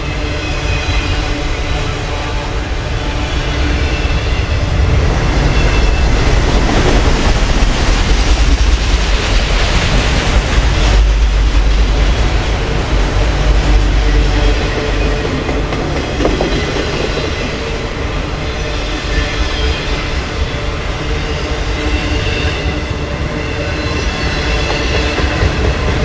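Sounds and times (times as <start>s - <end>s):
freight train rumbling past: 0.0s - 26.0s
wheels clickety-clack over track: 3.8s - 20.5s, 21.4s - 26.0s.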